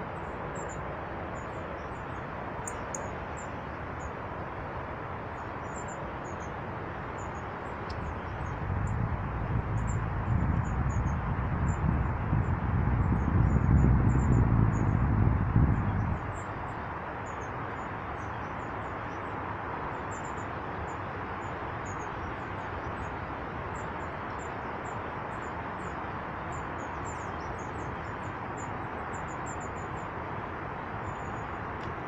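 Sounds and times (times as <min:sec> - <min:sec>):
steady rushing background noise: 0:00.0 - 0:32.0.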